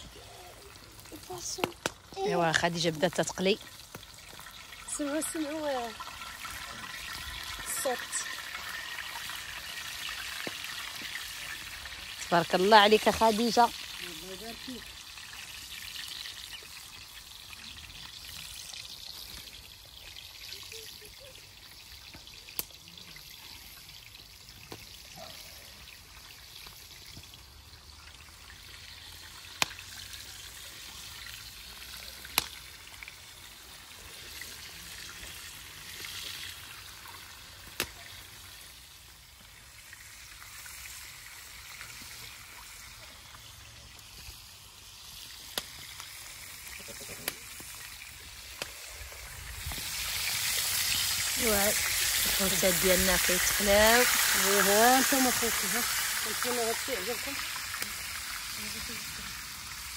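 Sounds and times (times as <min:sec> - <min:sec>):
oil popping: 0:00.0 - 0:20.8, 0:26.2 - 0:38.9, 0:39.5 - 0:58.6
fish sizzling in hot oil: 0:00.0 - 0:59.9.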